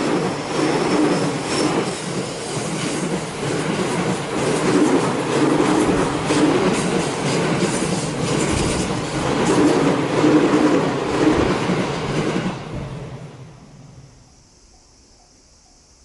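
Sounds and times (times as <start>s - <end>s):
train wheels clattering: 0.0s - 12.9s.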